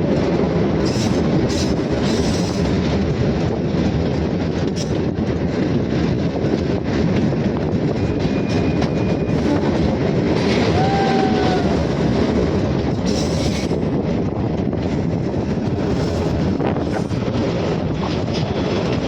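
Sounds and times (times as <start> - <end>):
train wheels rumbling and rattling: 0.0 - 19.0.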